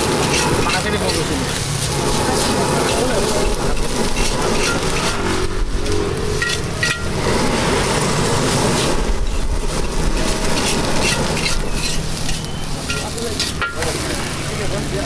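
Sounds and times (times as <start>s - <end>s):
metal spatula scraping a wok: 0.0s - 14.1s
rice sizzling: 0.0s - 15.0s.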